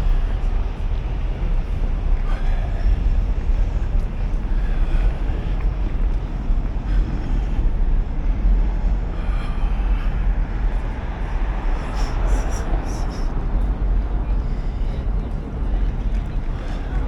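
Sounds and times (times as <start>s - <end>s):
urban background rumble: 0.0s - 17.0s.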